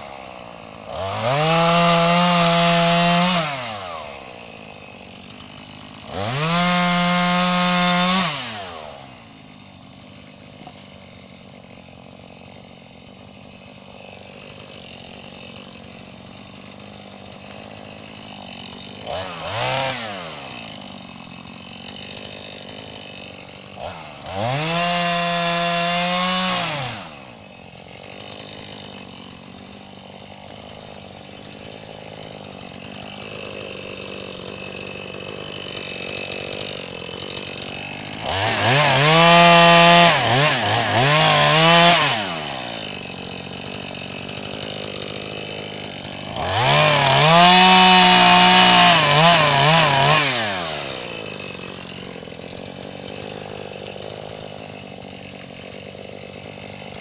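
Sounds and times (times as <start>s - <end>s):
chainsaw idling: 0.0s - 57.0s
chainsaw revving while cutting: 0.0s - 57.0s.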